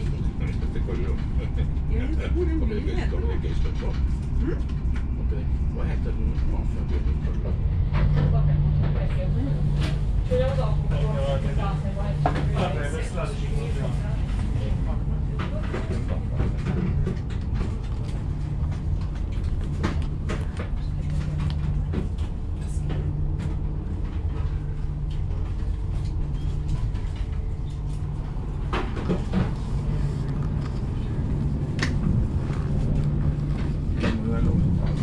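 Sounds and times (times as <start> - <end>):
train cabin rumble and hum: 0.0 - 35.0.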